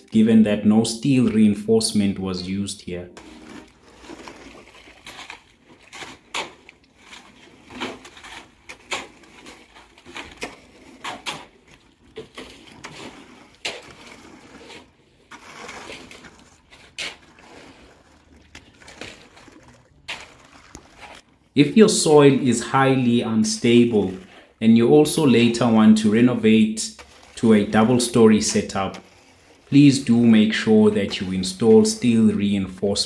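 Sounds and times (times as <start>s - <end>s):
spade scraping wet concrete: 0.0s - 33.0s.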